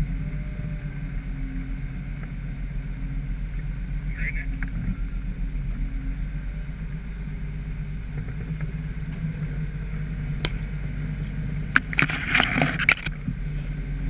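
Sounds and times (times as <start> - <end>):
engine running low: 0.0 - 14.0.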